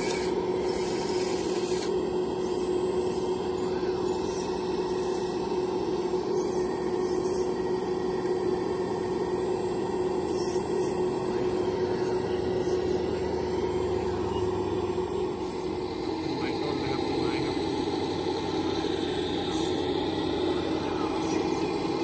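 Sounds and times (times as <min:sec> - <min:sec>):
hydraulic pump whine: 0:00.0 - 0:22.0.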